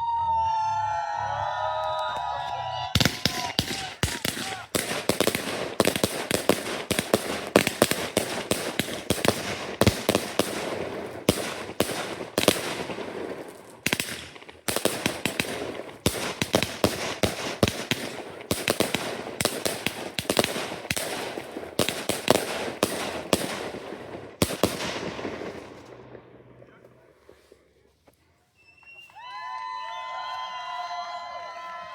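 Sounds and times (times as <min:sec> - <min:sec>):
fireworks bangs: 0:00.0 - 0:27.9
fireworks crackling: 0:02.2 - 0:28.6.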